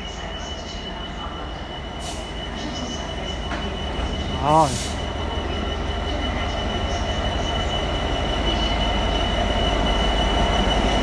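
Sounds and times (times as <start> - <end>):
diesel train rumble: 0.0 - 11.0.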